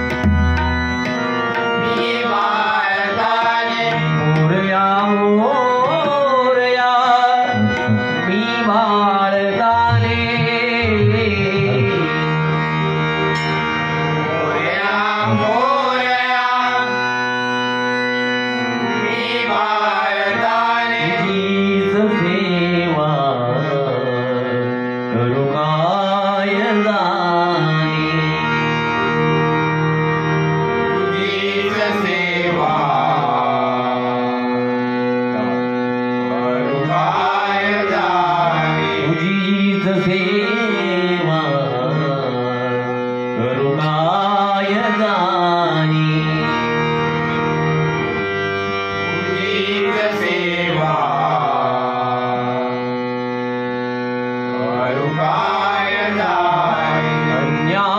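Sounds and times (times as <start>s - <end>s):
man singing devotional song: 0.0s - 13.4s, 14.1s - 18.2s, 18.8s - 29.2s, 30.9s - 57.9s
sustained instrumental notes: 0.0s - 57.9s.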